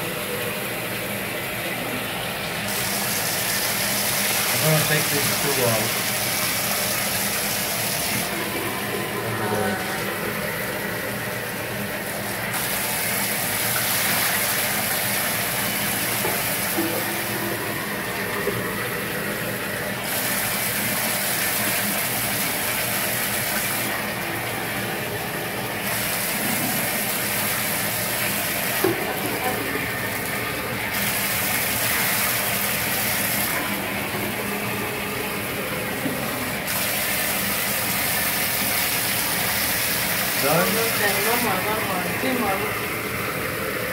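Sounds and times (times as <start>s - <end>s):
water splashing into bathtub: 2.7s - 42.6s.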